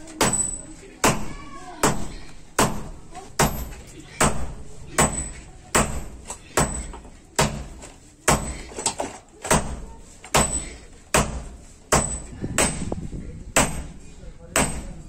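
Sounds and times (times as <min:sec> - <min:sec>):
sledgehammer striking hot iron: 0:00.2 - 0:13.0, 0:13.6 - 0:15.0.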